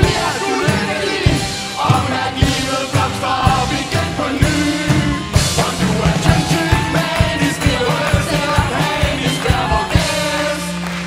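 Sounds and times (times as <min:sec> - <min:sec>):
upbeat live band music: 0:00.0 - 0:11.0.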